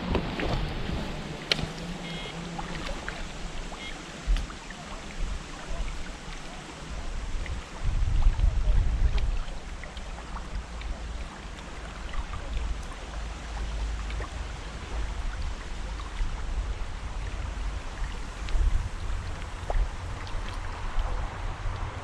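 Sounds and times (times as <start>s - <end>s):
wind buffeting microphone: 0.0s - 10.8s, 14.9s - 22.0s
water lapping: 0.0s - 22.0s.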